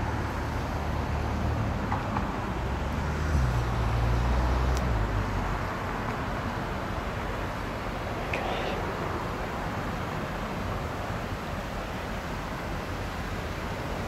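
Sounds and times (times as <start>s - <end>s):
hum of passing vehicles: 0.0s - 14.0s.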